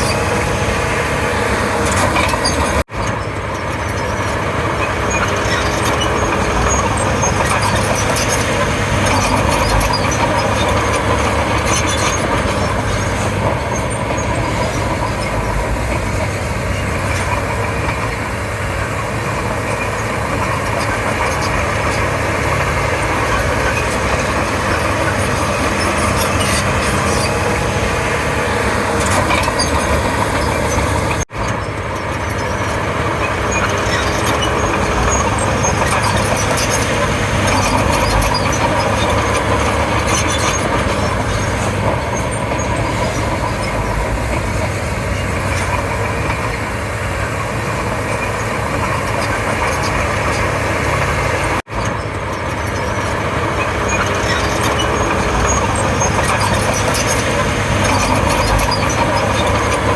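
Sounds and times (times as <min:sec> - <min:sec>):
bulldozer diesel engine running: 0:00.0 - 0:59.9
bulldozer tracks: 0:00.0 - 0:59.9.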